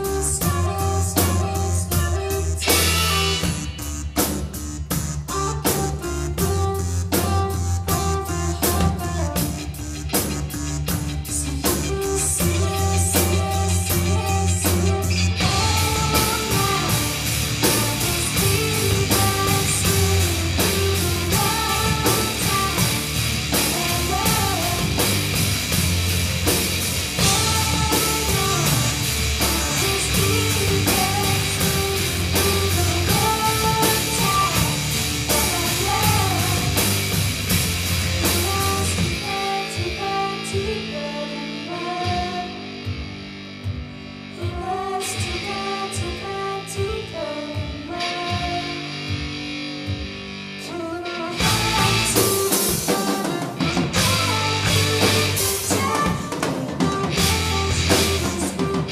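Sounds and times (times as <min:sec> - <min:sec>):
woman singing: 0:00.0 - 0:03.8, 0:05.3 - 0:09.9, 0:10.8 - 0:25.5, 0:27.2 - 0:37.2, 0:38.2 - 0:42.9, 0:44.3 - 0:49.3, 0:50.6 - 0:58.9
bass guitar: 0:00.0 - 0:58.9
drum kit: 0:00.0 - 0:58.9
electric guitar: 0:00.0 - 0:58.9.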